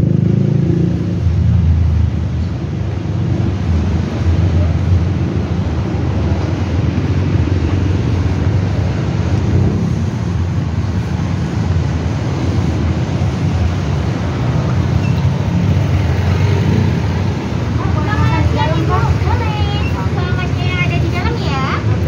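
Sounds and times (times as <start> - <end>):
low rumble of street noise: 0.0 - 22.0.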